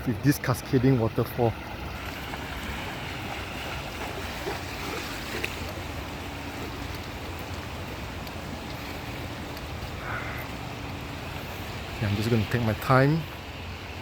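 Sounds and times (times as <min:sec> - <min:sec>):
waterfall pouring and splashing: 0:00.0 - 0:14.0.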